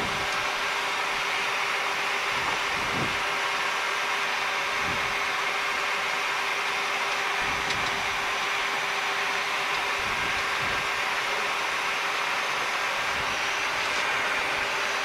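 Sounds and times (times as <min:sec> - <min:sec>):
air conditioning hiss: 0:00.0 - 0:15.0
jet engines idling: 0:00.0 - 0:15.0.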